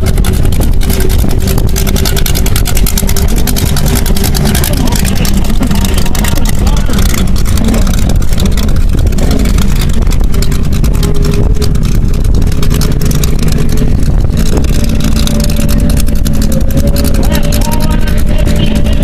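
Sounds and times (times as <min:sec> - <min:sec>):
powerboat engines running: 0:00.0 - 0:19.0.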